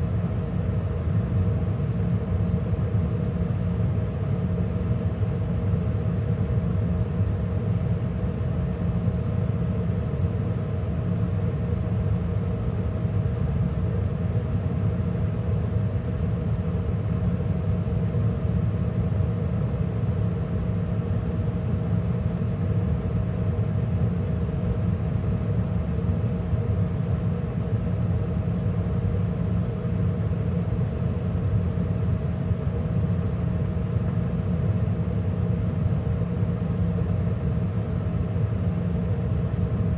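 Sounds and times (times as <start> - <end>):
gas furnace running: 0.0 - 39.9.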